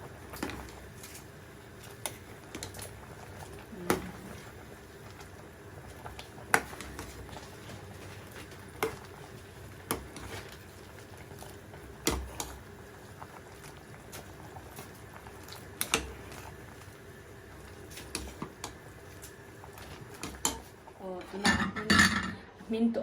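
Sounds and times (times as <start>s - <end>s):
pot bubbling: 0.0s - 23.0s.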